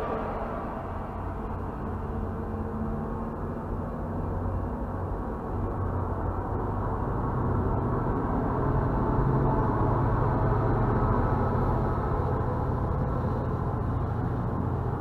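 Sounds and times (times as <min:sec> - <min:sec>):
low locomotive engine hum: 0:00.0 - 0:15.0.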